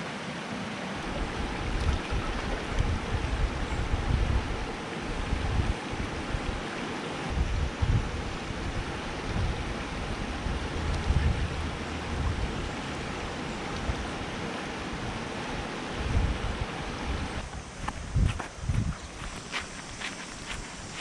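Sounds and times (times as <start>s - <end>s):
wind buffeting microphone: 1.0s - 6.7s, 7.3s - 21.0s.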